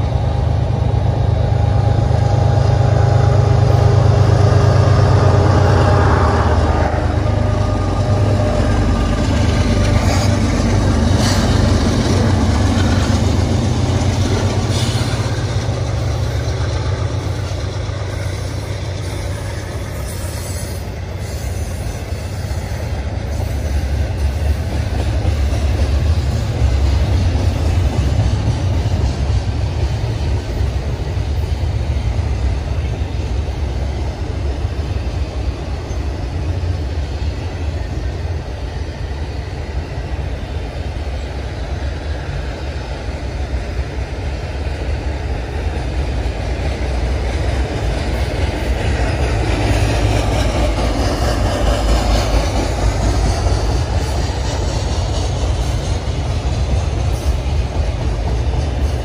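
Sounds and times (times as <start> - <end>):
diesel locomotives rumbling: 0.0 - 59.0
train cars rattling on rails: 0.0 - 59.0.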